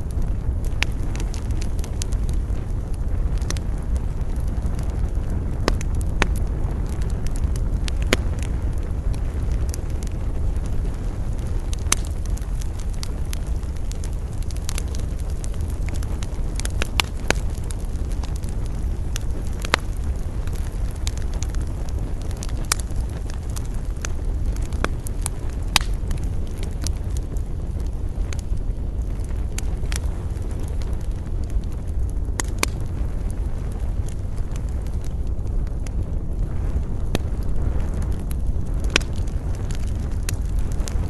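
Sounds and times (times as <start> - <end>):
campfire crackling and popping: 0.0 - 41.0
low rumble of wind: 0.0 - 41.0.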